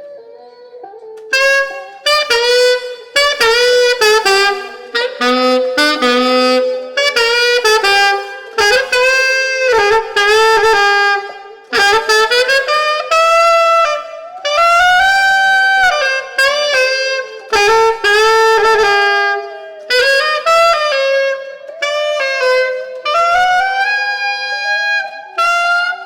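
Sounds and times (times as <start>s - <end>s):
saxophone playing: 0.0s - 26.0s.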